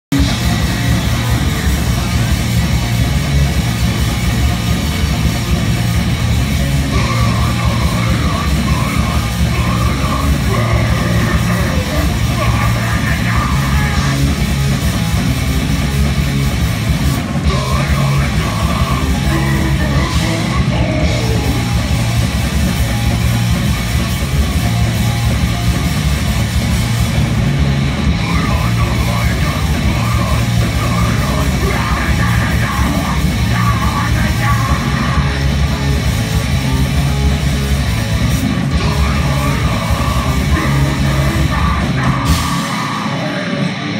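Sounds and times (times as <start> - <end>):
loud punk band playing: 0.0 - 43.9.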